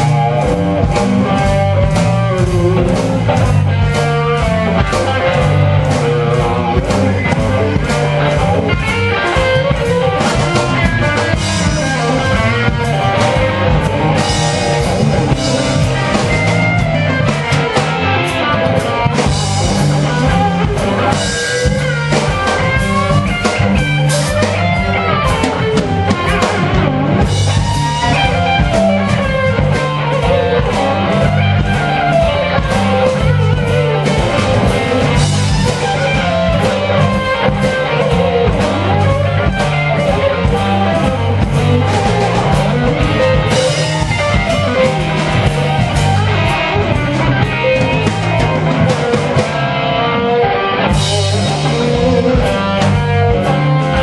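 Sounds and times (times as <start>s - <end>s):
blues-rock band playing: 0.0s - 54.0s
electric guitar lead: 0.0s - 54.0s.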